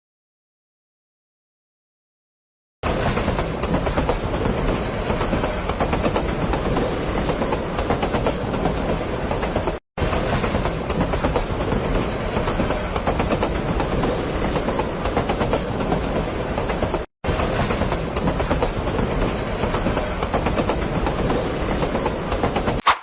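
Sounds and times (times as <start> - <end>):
train wheels clacking: 2.8 - 23.0.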